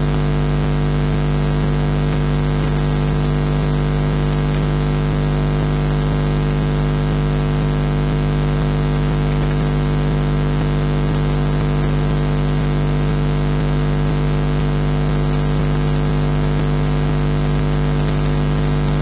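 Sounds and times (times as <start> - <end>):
constant hiss: 0.0 - 19.0
electrical hum: 0.0 - 19.0
faint crackles: 0.0 - 19.0.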